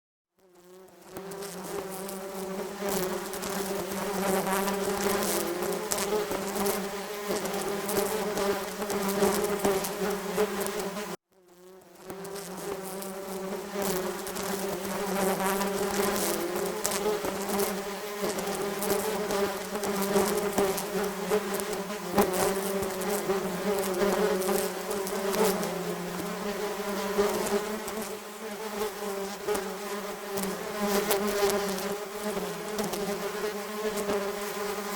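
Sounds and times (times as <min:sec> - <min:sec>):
swarm of wasps buzzing: 0:00.4 - 0:34.9.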